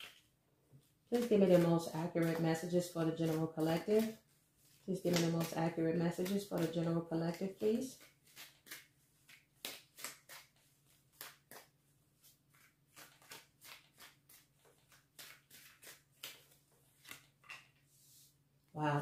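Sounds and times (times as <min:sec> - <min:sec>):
cards being shuffled: 0:00.0 - 0:17.9.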